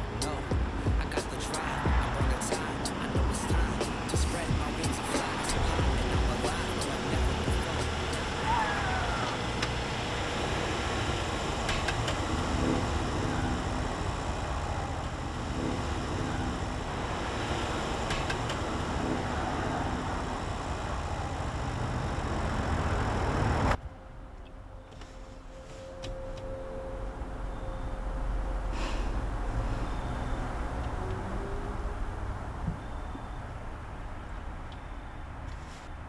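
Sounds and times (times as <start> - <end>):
steady hum: 0.0 - 32.5
road rumble and hiss: 0.0 - 36.0.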